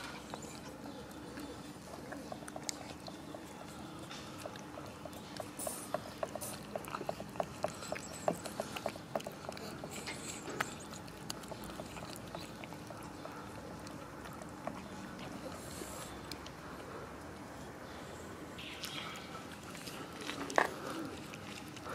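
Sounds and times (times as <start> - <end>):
cats chewing wet food: 0.0 - 21.9.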